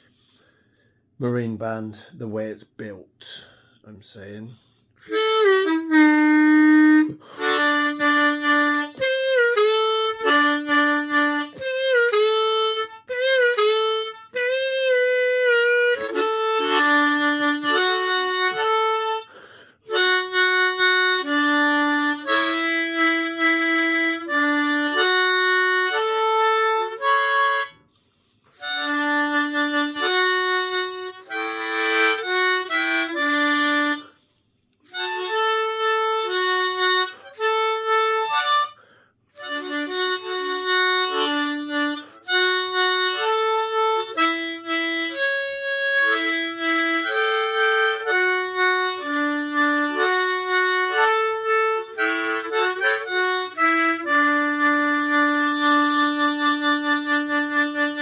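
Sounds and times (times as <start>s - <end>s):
harmonica playing: 4.6s - 58.0s.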